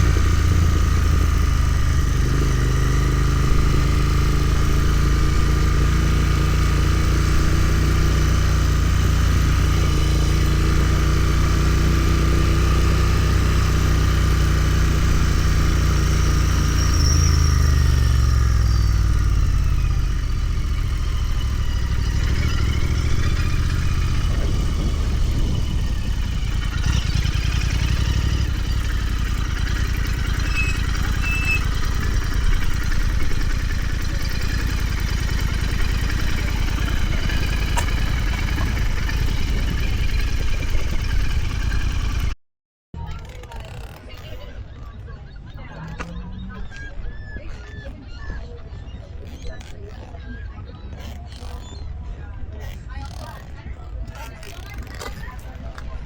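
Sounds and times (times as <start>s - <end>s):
motorcycle engine running: 0.0s - 42.4s, 43.0s - 56.0s.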